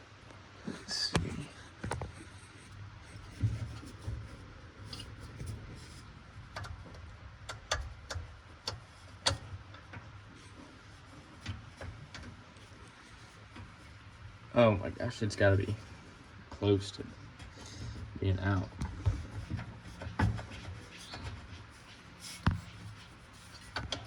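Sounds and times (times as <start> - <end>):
rubbing and shuffling: 1.1 - 24.0.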